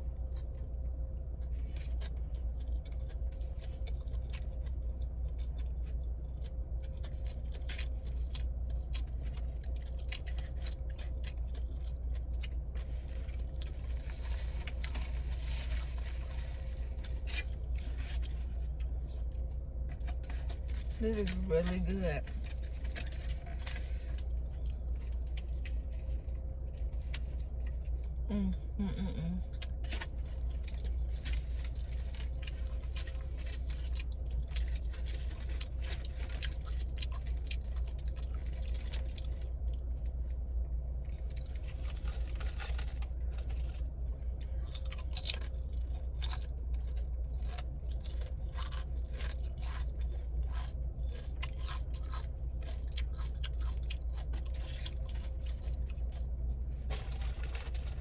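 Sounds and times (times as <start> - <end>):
person chewing sandwich: 0.0 - 21.4, 22.2 - 58.0
low steady hum: 0.0 - 58.0.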